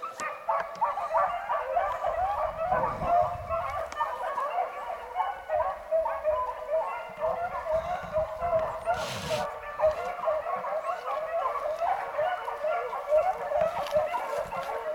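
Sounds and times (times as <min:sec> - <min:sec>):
hounds baying: 0:00.0 - 0:14.9.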